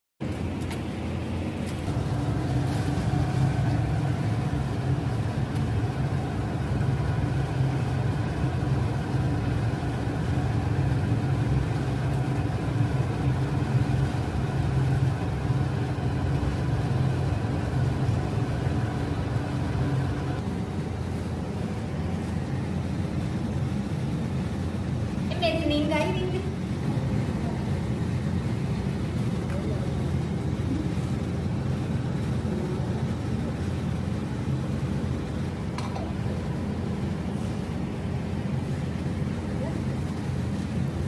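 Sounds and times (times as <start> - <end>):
low motor hum: 0.2 - 41.0.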